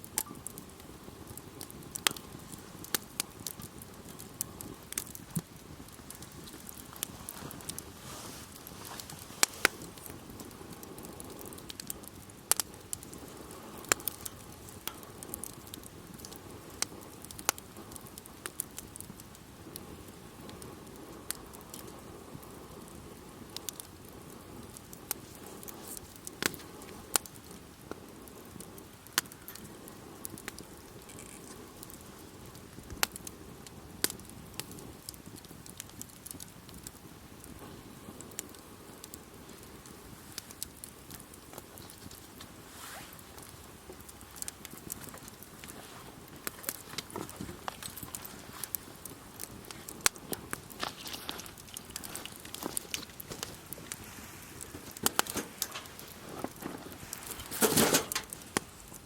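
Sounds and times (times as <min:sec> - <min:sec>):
bonfire crackling and popping: 0:00.0 - 0:59.0
soft hiss of burning: 0:00.0 - 0:59.0.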